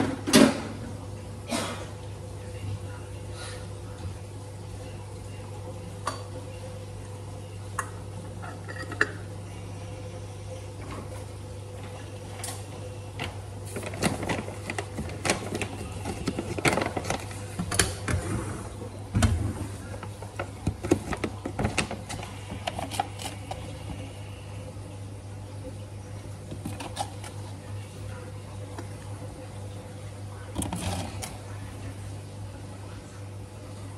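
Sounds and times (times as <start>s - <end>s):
steady low hum: 0.7s - 33.9s.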